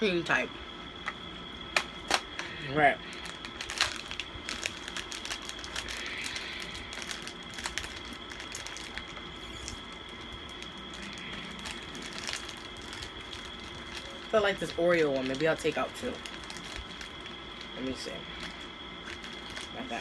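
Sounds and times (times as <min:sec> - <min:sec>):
plastic packet crinkling: 0:03.1 - 0:20.0.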